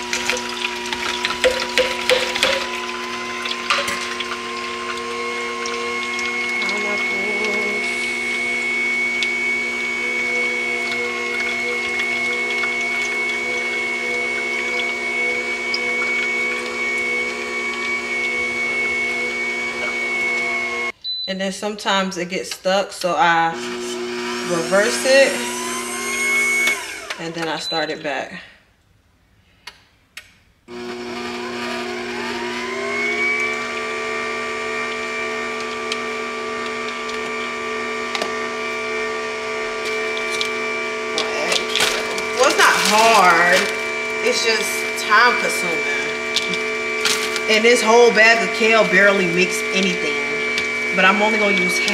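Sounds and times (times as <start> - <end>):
juicer motor humming: 0.0 - 21.3, 23.0 - 28.3, 30.7 - 51.9.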